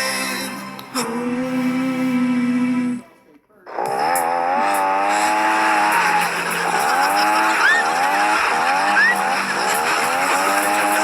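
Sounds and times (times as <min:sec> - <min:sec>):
vehicle engine revving: 0:01.0 - 0:03.1, 0:03.7 - 0:11.0.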